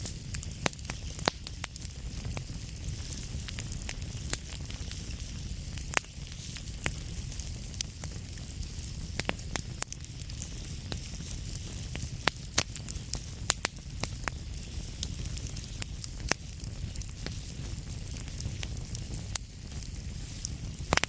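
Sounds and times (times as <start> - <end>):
low fire rumble: 0.0 - 21.0
soft fire hiss: 0.0 - 21.0
wood fire crackling and popping: 0.0 - 21.0.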